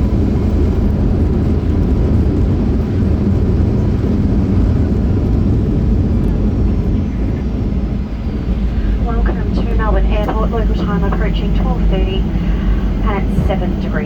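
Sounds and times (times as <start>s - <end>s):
airliner engines rumbling in cabin: 0.0s - 14.0s.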